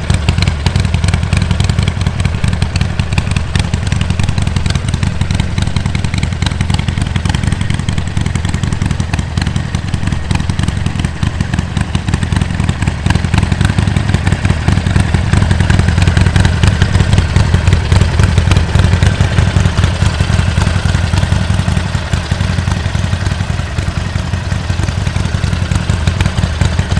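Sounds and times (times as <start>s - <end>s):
motorcycle engine pulsing exhaust: 0.0s - 26.9s.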